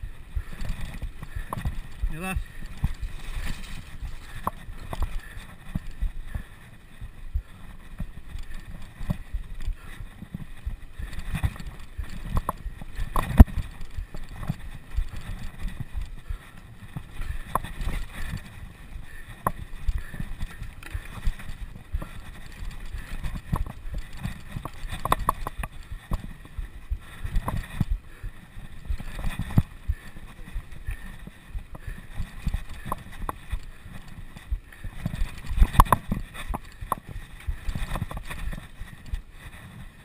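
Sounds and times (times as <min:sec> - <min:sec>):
bicycle rattling and knocking: 0:00.0 - 0:40.0.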